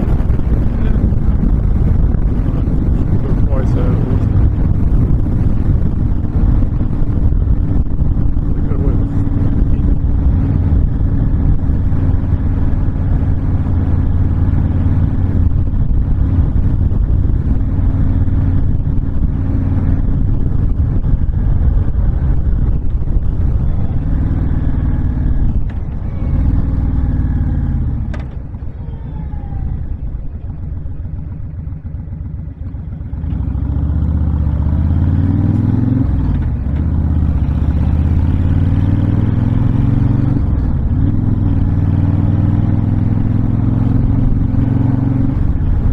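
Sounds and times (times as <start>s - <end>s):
wind rush: 0.0s - 32.5s, 33.3s - 45.9s
motorcycle engine running: 0.0s - 45.9s.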